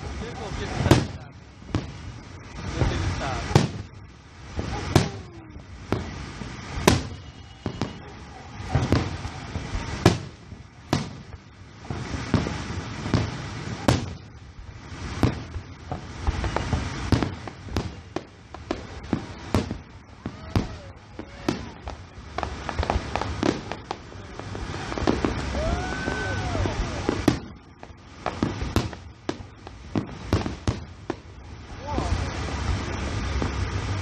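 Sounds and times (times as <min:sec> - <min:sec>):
fireworks shells bursting with echo: 0:00.0 - 0:31.4.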